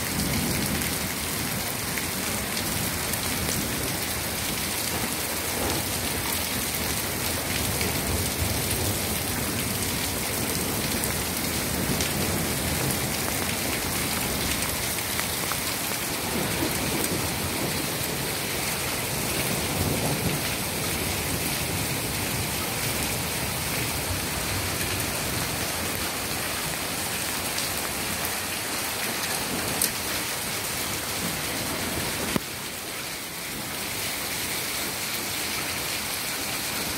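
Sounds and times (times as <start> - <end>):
hail and rain on cobbles: 0.0 - 36.9.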